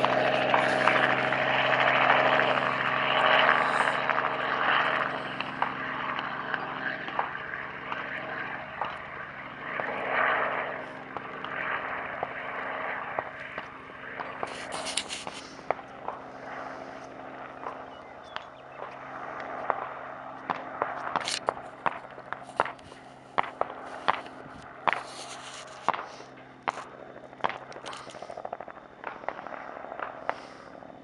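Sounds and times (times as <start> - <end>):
steady mechanical hum: 0.0 - 31.0.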